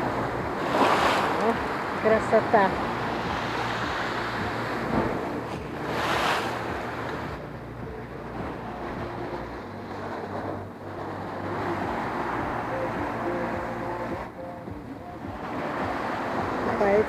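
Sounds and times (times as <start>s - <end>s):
sea surf washing ashore: 0.0s - 17.0s
wind rumbling on microphone: 0.0s - 17.0s.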